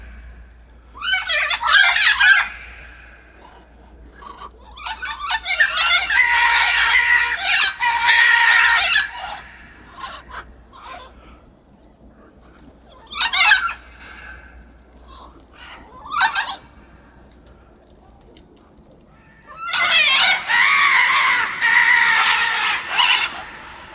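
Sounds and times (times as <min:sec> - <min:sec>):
macaws squawking: 0:00.0 - 0:11.5, 0:12.1 - 0:17.7, 0:19.2 - 0:23.9.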